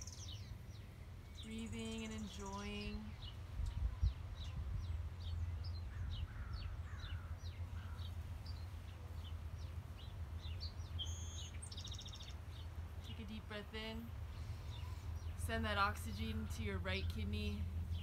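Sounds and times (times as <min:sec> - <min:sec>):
low outdoor rumble: 0:00.0 - 0:18.0
small birds chirping: 0:00.0 - 0:18.0.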